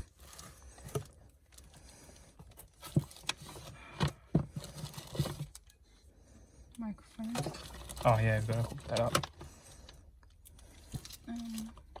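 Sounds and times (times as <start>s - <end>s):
soft rustling of cables: 0.0s - 12.0s.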